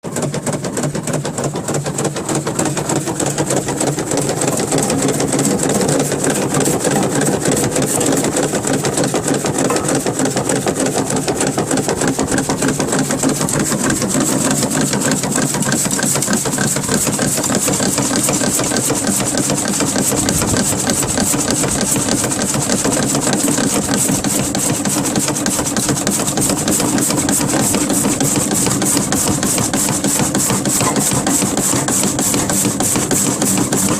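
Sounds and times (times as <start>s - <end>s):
shredding machine motor humming: 0.2s - 33.9s.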